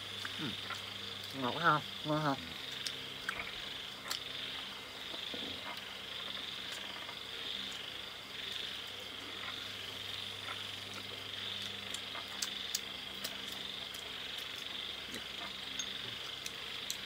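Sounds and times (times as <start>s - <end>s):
insects or frogs trilling: 0.0s - 17.0s.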